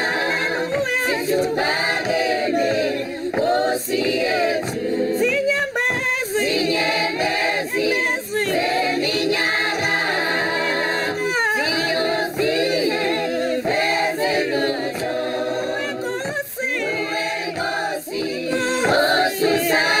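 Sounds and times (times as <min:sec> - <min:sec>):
unaccompanied choir singing: 0:00.0 - 0:20.0.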